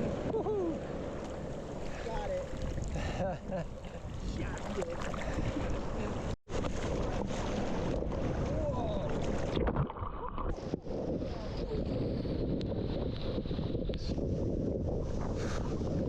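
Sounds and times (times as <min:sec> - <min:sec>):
surf and churning water: 0:00.0 - 0:16.0
wind buffeting microphone: 0:00.0 - 0:16.0.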